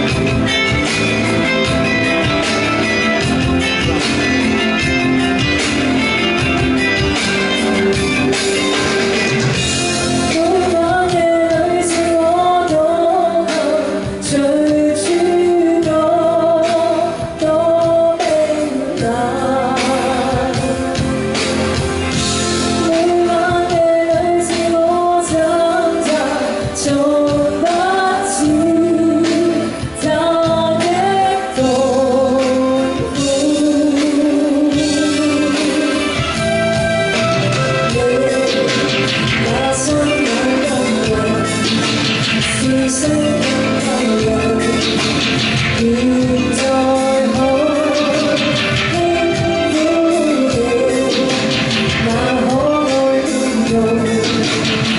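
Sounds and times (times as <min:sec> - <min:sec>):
backing track through pa system: 0:00.0 - 0:54.9
woman singing into microphone: 0:09.5 - 0:54.9.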